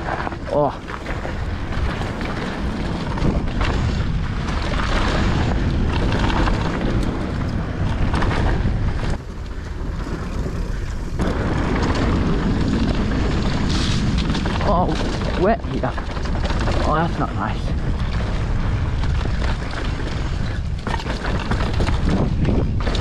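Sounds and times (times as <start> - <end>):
bike tyres rattling over dirt: 0.0 - 23.0
wind on microphone: 0.0 - 23.0.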